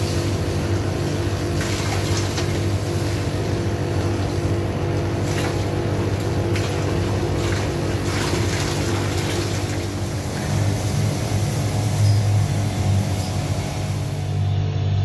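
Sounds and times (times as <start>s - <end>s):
water rushing through hose: 0.0s - 14.4s
engine drone: 0.0s - 15.0s.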